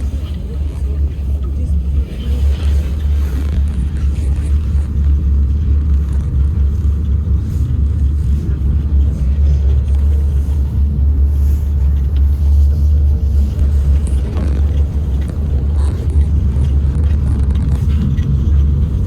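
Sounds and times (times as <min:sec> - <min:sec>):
monorail train rumbling: 0:00.0 - 0:19.0.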